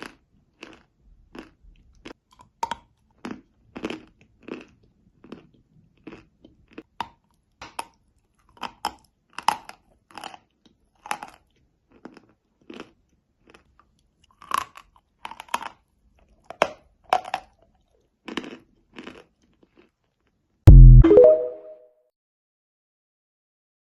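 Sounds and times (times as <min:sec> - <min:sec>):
crunching and chewing chalk: 0:00.0 - 0:20.6.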